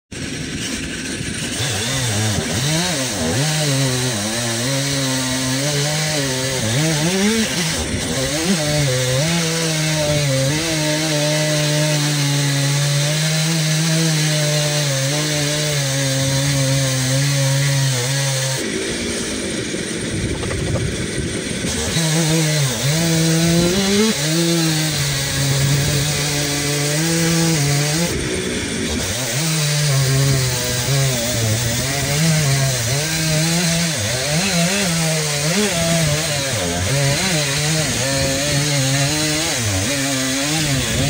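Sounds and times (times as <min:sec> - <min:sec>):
chainsaw cutting through log: 0:00.0 - 0:41.0.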